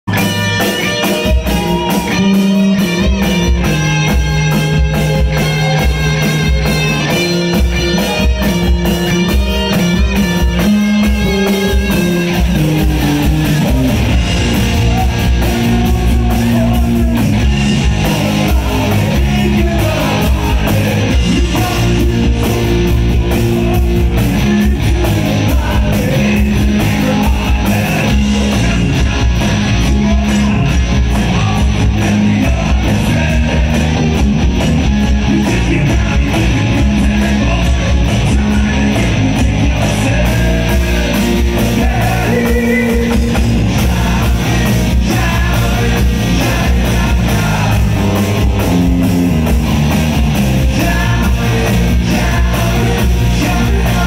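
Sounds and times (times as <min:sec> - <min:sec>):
bass guitar: 0:00.0 - 0:54.0
distorted electric guitars: 0:00.0 - 0:54.0
drum kit beat: 0:00.1 - 0:54.0.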